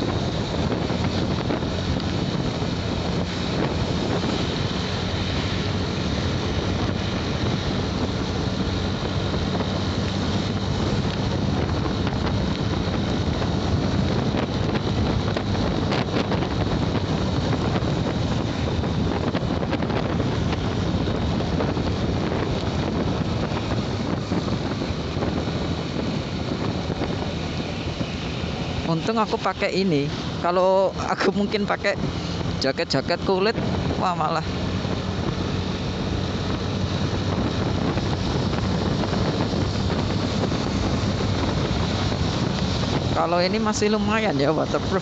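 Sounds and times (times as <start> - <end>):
motorcycle engine hum: 0.0 - 45.0
wind buffeting microphone: 0.0 - 45.0.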